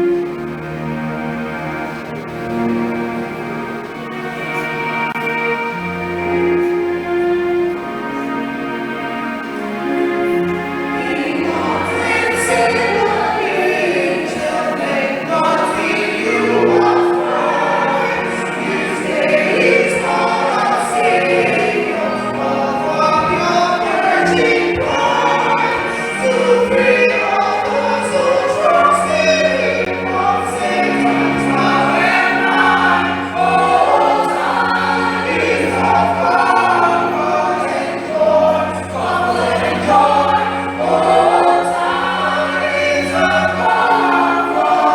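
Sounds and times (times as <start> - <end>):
choir singing: 0.0 - 44.9
sustained low accompaniment notes: 0.0 - 44.9.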